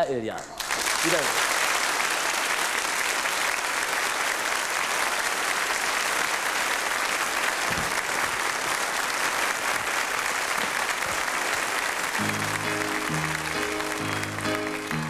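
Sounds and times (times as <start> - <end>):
studio audience applauding: 0.5 - 15.0.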